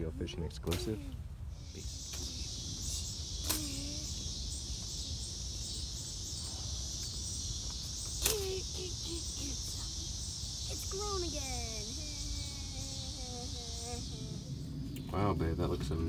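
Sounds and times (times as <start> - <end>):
insects chirring: 0.7 - 16.0.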